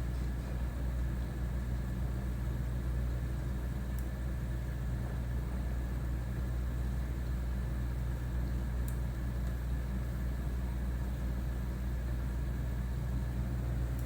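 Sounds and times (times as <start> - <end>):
air conditioner fan hum: 0.0 - 14.0.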